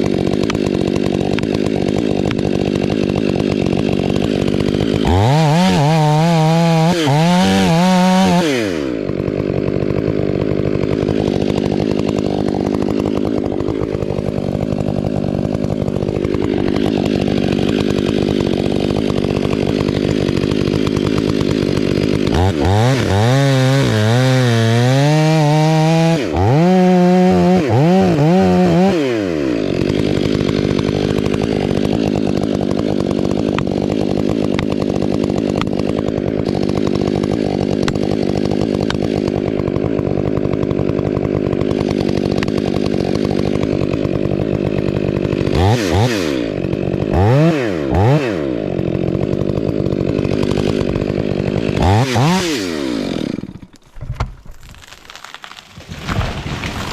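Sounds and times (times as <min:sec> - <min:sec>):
two-stroke chainsaw revving: 0:00.0 - 0:53.8, 0:54.6 - 0:56.9.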